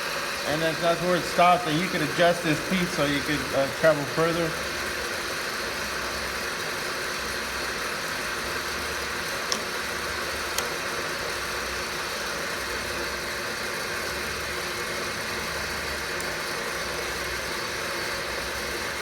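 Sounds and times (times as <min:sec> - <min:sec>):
milling machine running: 0:00.0 - 0:19.0.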